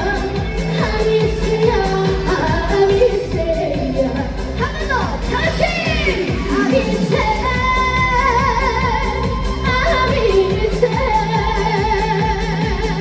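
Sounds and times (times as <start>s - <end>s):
band backing track with beat: 0.0s - 13.0s
woman singing with vibrato: 0.0s - 13.0s.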